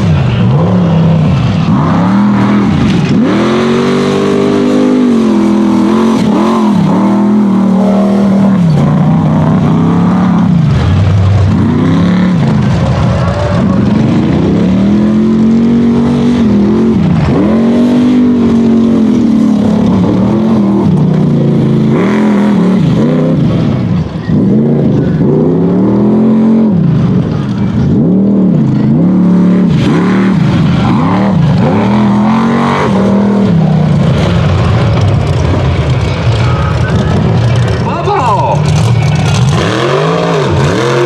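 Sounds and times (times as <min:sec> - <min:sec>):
truck engine revving: 0:00.0 - 0:41.0.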